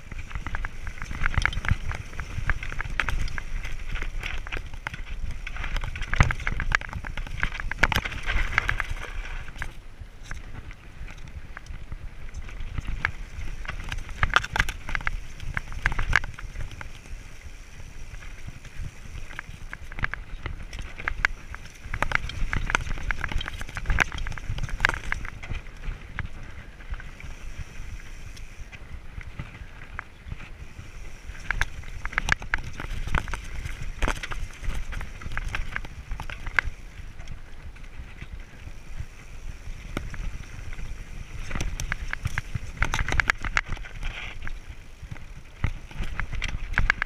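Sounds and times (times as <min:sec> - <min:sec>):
bike rattling: 0:00.0 - 0:47.0
tyres crunching over stones: 0:00.0 - 0:47.0
wind on microphone: 0:00.0 - 0:47.0.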